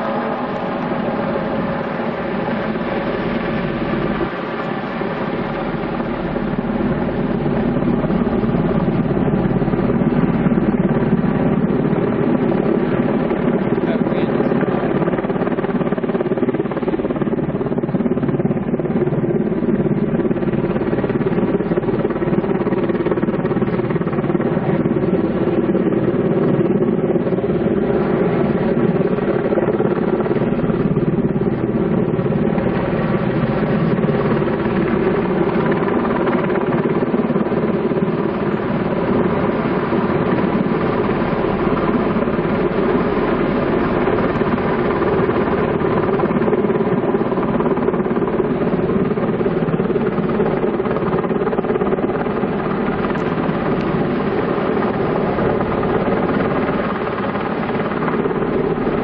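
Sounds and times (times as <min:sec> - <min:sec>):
helicopter rotor drone: 0:00.0 - 0:59.0.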